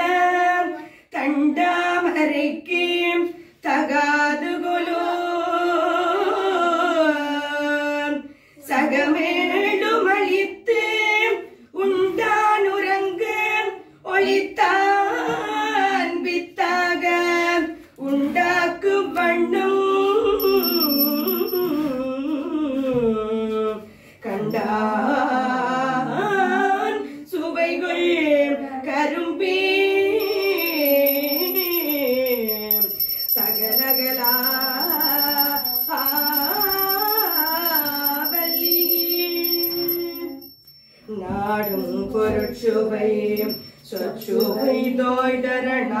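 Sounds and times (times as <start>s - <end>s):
woman singing unaccompanied: 0.0s - 40.5s, 41.1s - 46.0s.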